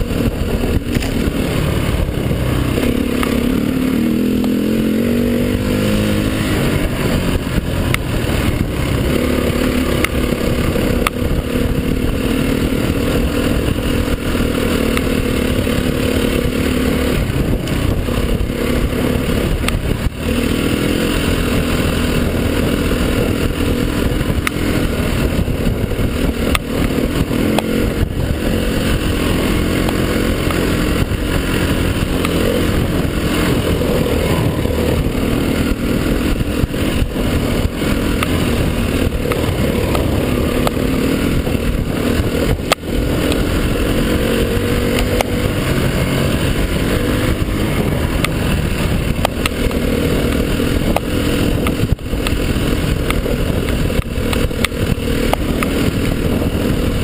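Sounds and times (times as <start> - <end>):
constant rushing noise: 0.0 - 57.0
dirt bike engine revving: 0.0 - 57.0.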